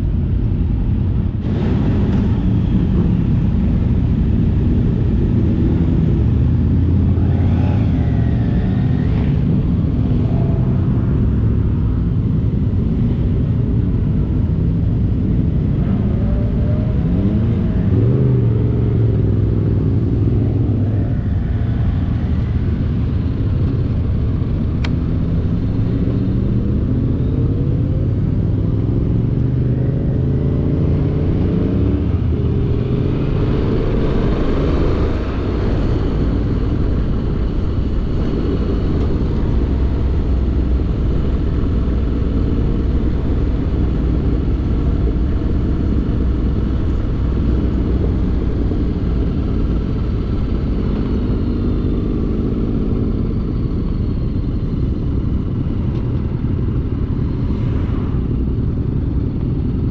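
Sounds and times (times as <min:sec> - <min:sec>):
wind and road rumble: 0:00.0 - 0:59.9
motorcycle engine accelerating: 0:01.3 - 0:59.9.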